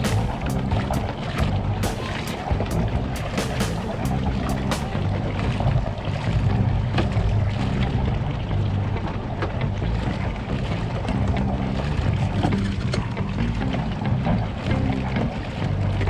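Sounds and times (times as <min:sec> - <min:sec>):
water noise: 0:00.0 - 0:13.4
steady low drone: 0:00.0 - 0:16.0
wind: 0:00.0 - 0:16.0.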